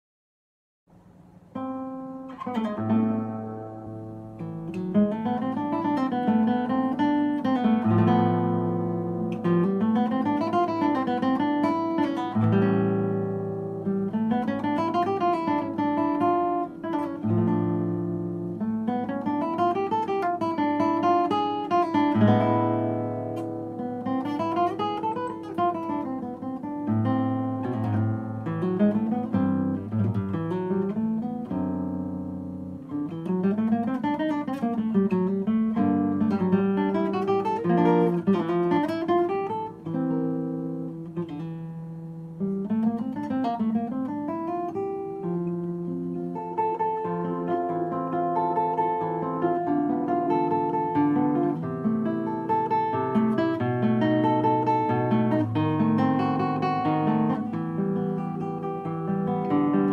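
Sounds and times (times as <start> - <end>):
fingerpicked classical guitar: 0.9 - 59.9.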